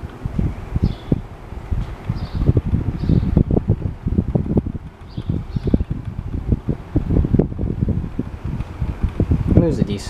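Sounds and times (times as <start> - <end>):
airflow buffeting microphone: 0.0 - 10.0
box fan running: 0.0 - 10.0.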